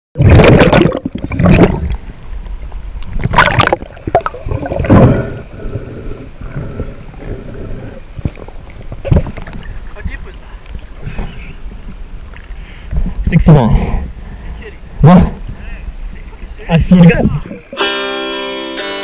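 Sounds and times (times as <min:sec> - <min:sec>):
muffled underwater rushing water: 0:00.2 - 0:17.8
constant low rumble: 0:00.3 - 0:17.8.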